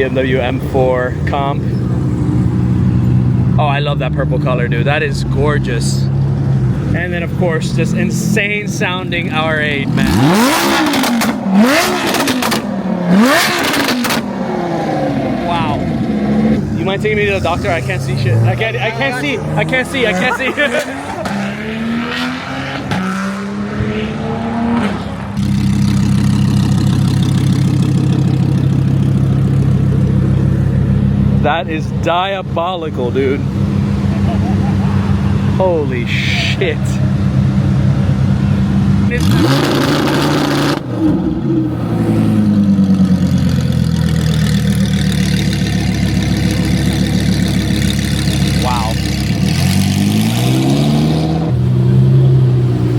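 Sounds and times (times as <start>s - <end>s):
car engine accelerating: 0.0s - 52.9s
loud deep exhaust at constant revs: 0.0s - 52.9s.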